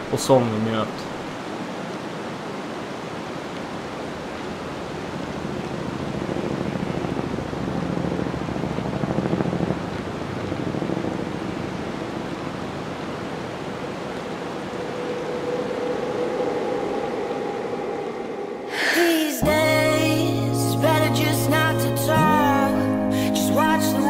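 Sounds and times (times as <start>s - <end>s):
wind: 0.0s - 20.7s
sea surf rushing: 0.0s - 24.0s.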